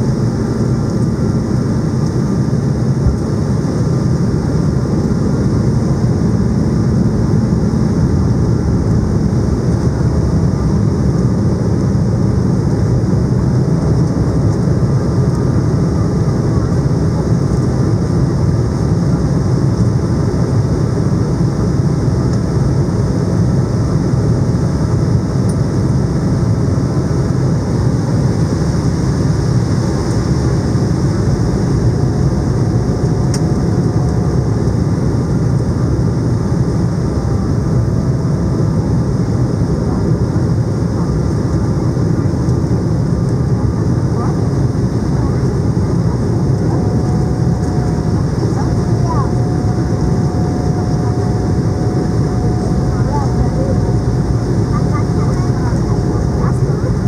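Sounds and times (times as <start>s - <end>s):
aircraft cabin roar: 0.0s - 57.0s
low hum: 0.0s - 57.0s.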